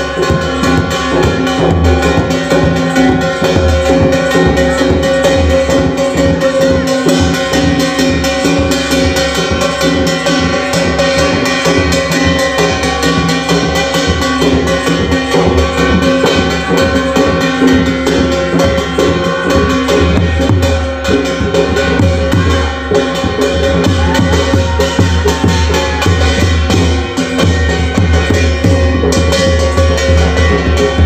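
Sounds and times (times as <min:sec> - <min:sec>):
folk drums playing fast beat: 0:00.0 - 0:31.0.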